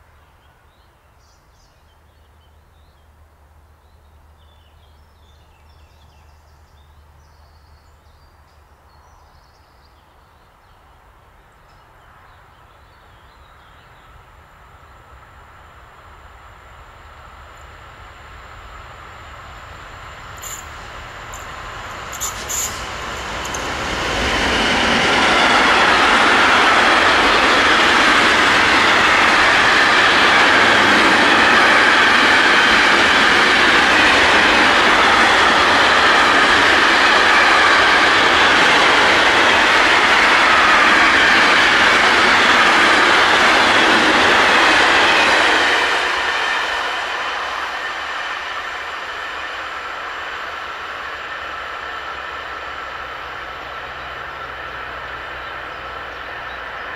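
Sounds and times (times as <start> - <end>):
electric train passing: 10.7 - 56.9.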